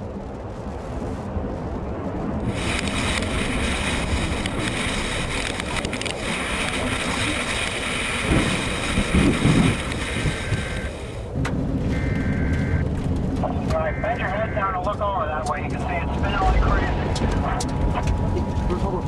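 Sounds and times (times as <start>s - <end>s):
loud rushing wind: 0.0s - 13.0s, 15.8s - 19.0s
vehicle noise: 0.0s - 19.0s
wind buffets: 0.0s - 19.0s.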